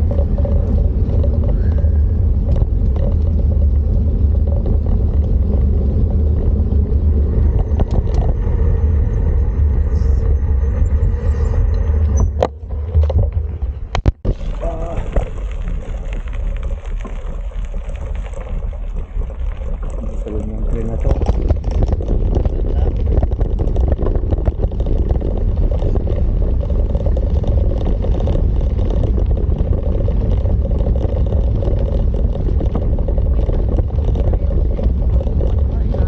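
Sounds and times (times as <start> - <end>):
road noise: 0.0 - 36.0
wind rumble: 0.0 - 36.0.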